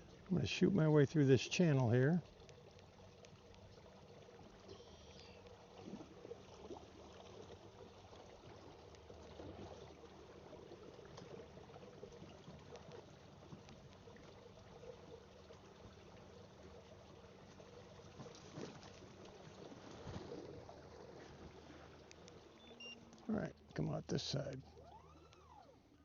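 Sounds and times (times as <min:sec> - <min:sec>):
low steady hum: 0:00.0 - 0:26.0
water lapping against kayak hull: 0:00.0 - 0:26.0
small crackles: 0:01.5 - 0:25.9.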